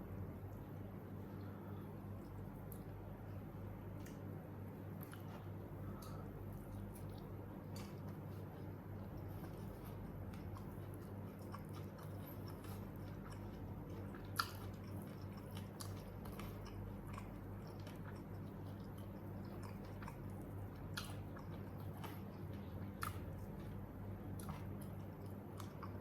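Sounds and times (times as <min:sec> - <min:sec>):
steady low hum: 0:00.0 - 0:26.0
person chewing and biting: 0:05.0 - 0:26.0.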